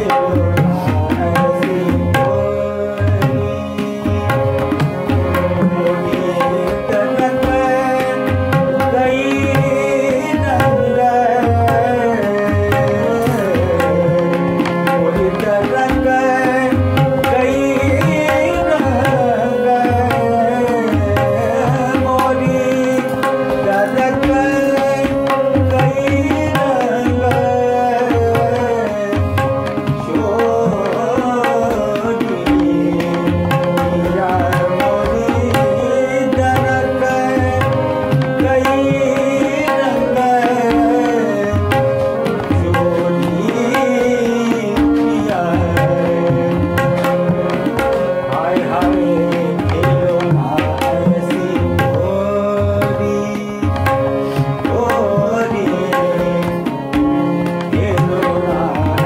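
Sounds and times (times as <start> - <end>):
harmonium chords: 0.0 - 59.0
man singing: 0.0 - 59.0
tabla strokes: 0.0 - 59.0.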